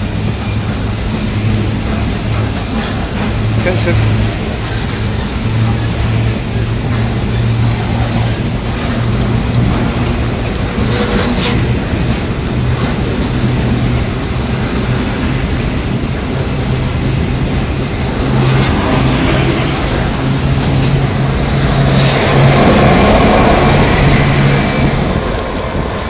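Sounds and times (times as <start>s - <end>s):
train wagons clattering: 0.0s - 26.0s
wheel-on-rail rumble: 0.0s - 26.0s.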